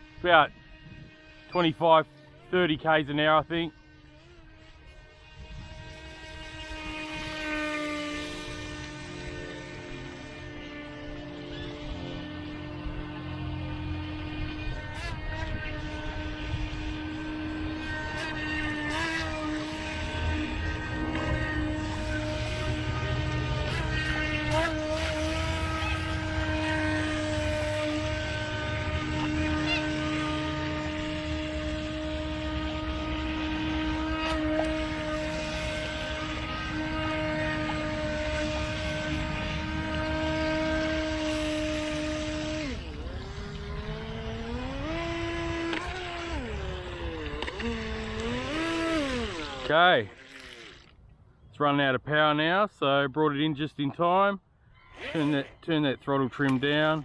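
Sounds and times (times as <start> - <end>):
electric motor whining: 0.0 - 51.5, 54.8 - 57.0.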